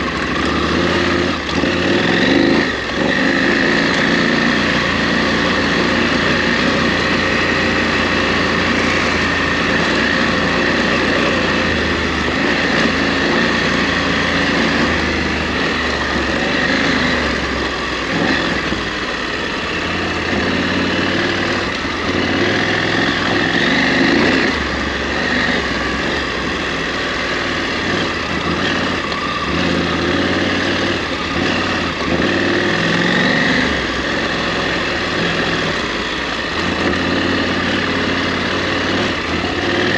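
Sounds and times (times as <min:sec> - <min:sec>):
motorcycle engine revving off-road: 0:00.0 - 0:39.9.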